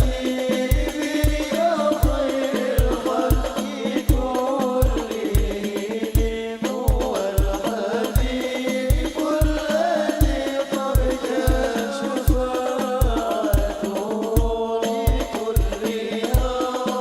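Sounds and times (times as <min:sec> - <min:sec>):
hand-struck frame drums: 0:00.0 - 0:17.0
voices singing devotional melody: 0:00.0 - 0:17.0.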